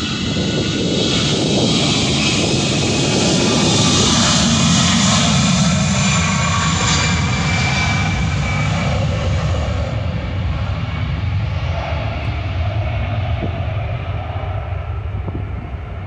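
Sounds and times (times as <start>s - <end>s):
jet engine whine and hiss: 0.0s - 16.0s
jet engines rumbling: 0.0s - 16.0s.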